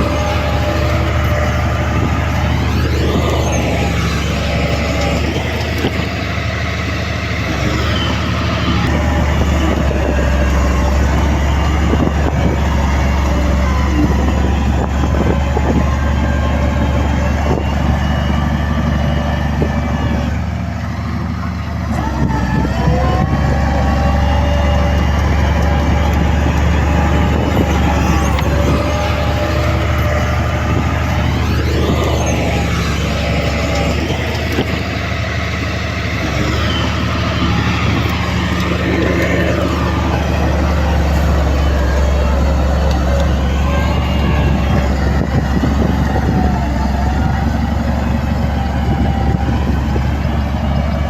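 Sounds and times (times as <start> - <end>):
heavy diesel engine revving: 0.0 - 51.0.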